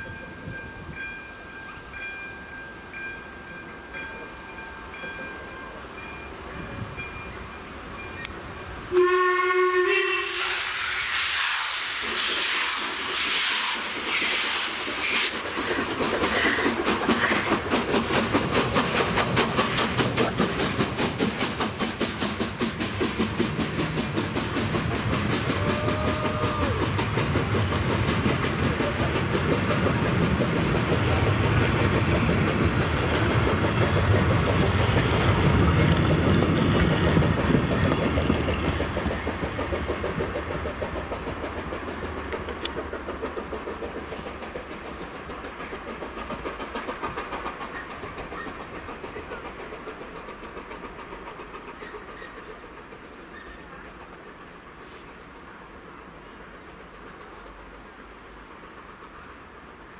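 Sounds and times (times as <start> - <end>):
low train rumble: 0.0 - 59.9
steam locomotive exhaust beats: 0.0 - 59.9
train wheels clattering on rails: 4.0 - 59.9
hissing steam: 4.2 - 59.9.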